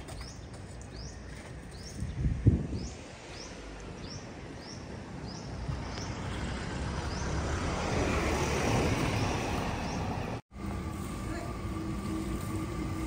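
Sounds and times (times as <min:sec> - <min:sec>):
vehicle passing on street: 0:01.0 - 0:13.0.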